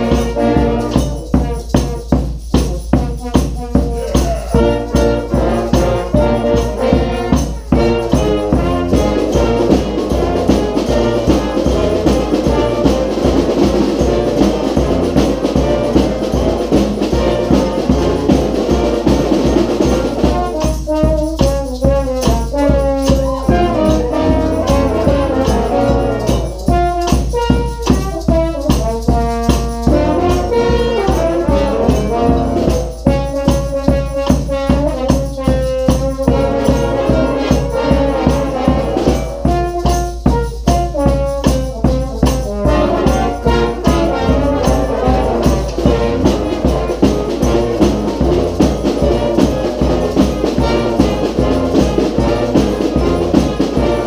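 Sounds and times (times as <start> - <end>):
brass band playing: 0.0 - 54.0
snare drum beat: 0.0 - 54.0.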